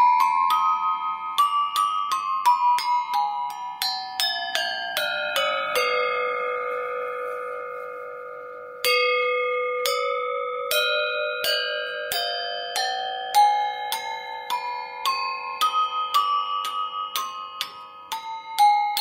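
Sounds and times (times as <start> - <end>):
tuned bells ringtone melody: 0.0 - 19.0.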